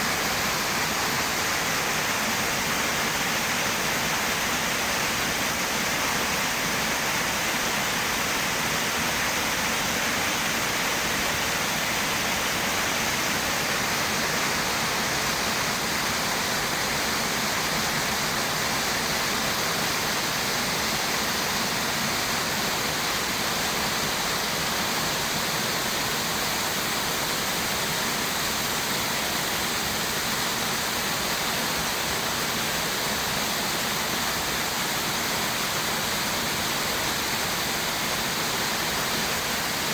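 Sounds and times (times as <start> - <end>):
waterfall rushing onto rock: 0.0 - 39.9.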